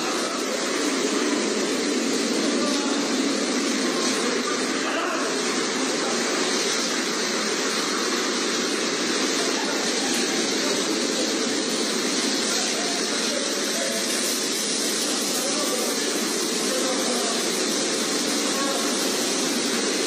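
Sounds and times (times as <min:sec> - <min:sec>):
car wash spray rushing: 0:00.0 - 0:20.0.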